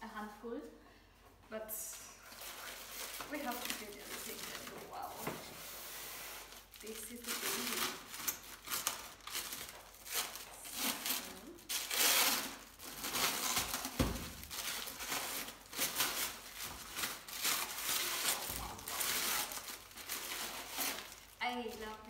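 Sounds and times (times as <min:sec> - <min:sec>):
plastic wrapping crinkling: 0:02.2 - 0:22.0.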